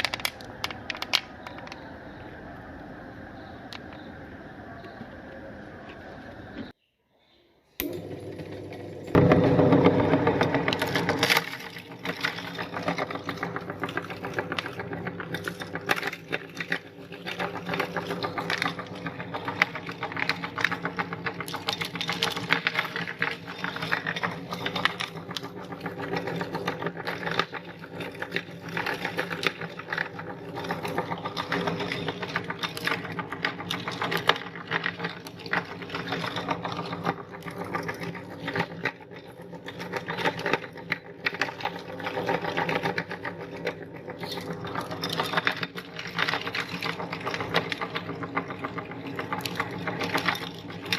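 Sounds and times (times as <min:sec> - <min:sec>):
candies crackling in grinder: 0:00.0 - 0:01.9, 0:07.8 - 0:50.9.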